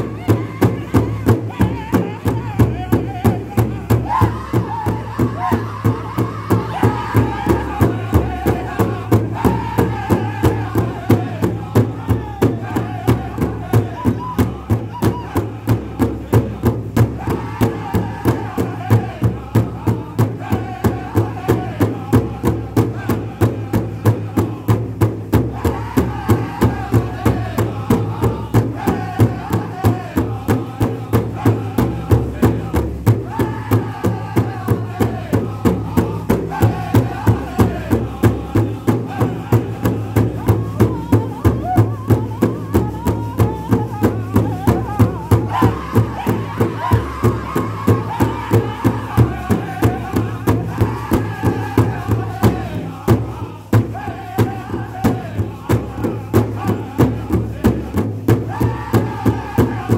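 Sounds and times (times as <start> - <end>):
group singing in unison: 0.0 - 59.9
large drum steady beat: 0.0 - 59.9.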